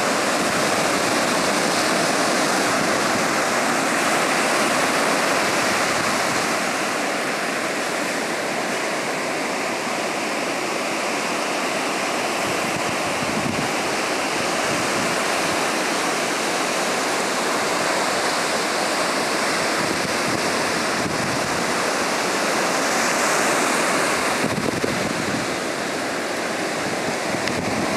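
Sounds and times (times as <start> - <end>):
ocean surf breaking on beach: 0.0 - 27.9.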